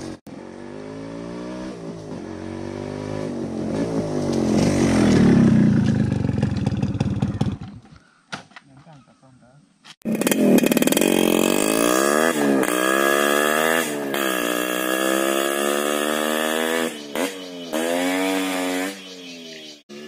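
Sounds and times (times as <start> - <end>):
motorcycle engine accelerating: 0.0 - 7.9, 10.0 - 20.0.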